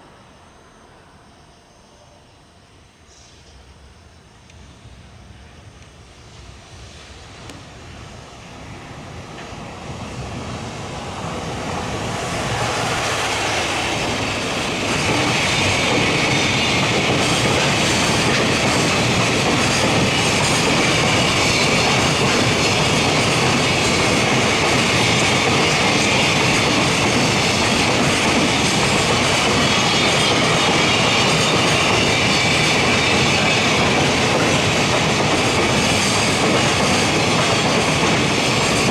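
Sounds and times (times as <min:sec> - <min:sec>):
freight train passing: 0:00.0 - 0:38.9.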